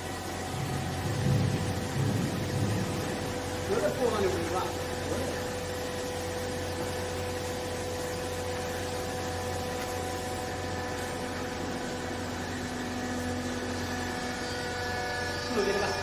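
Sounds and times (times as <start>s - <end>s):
baling machine hum and whine: 0.0s - 16.0s
lower machine tone: 0.0s - 16.0s.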